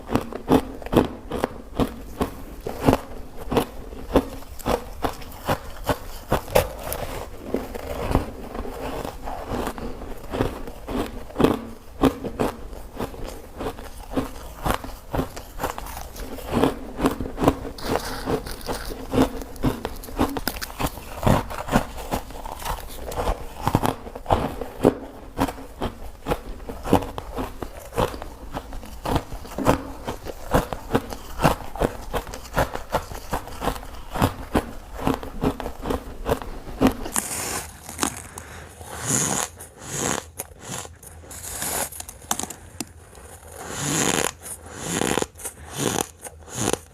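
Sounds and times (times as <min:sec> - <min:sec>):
low background hum: 0:00.0 - 0:46.9
person crunching ice: 0:00.0 - 0:46.9.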